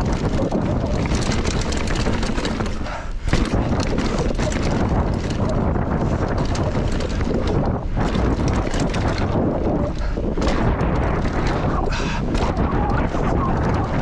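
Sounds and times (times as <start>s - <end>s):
bike rattling over bumps: 0.0s - 14.0s
tyres on dirt: 0.0s - 14.0s
wind buffeting microphone: 0.0s - 14.0s.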